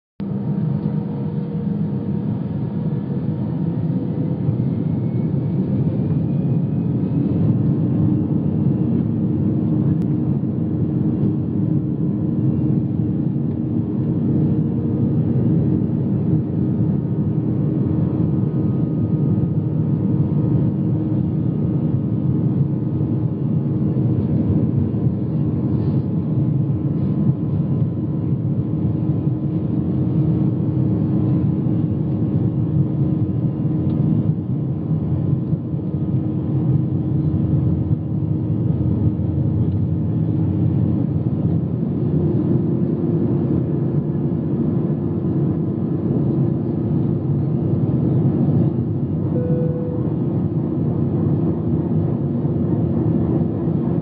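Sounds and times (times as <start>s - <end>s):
faint rising whine: 0.2s - 54.0s
jet engines humming and rumbling: 0.2s - 54.0s.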